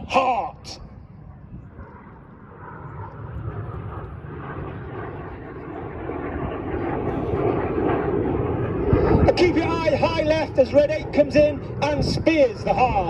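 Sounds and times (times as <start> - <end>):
jet aircraft rushing noise: 0.0 - 13.0.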